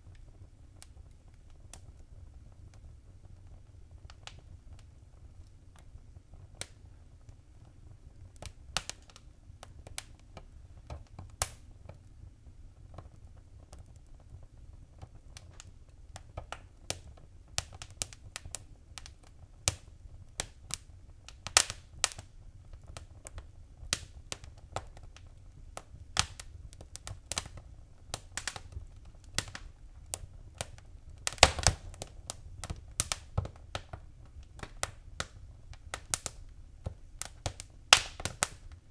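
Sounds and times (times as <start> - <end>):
faint low rumble: 0.0 - 38.9
wood fire crackling and popping: 0.0 - 38.9.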